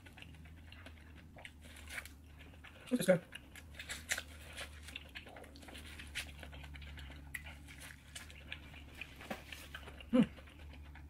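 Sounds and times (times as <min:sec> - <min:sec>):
faint low hum: 0:00.0 - 0:11.0
person chewing: 0:00.0 - 0:11.0.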